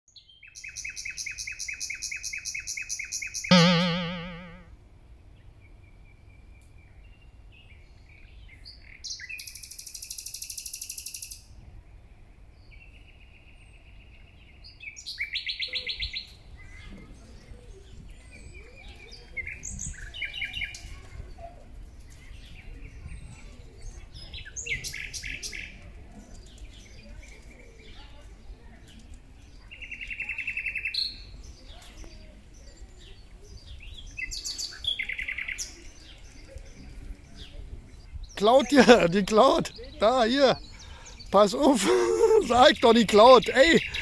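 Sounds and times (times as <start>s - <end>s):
songbirds chirping and trilling: 0.1s - 3.5s, 5.2s - 44.0s.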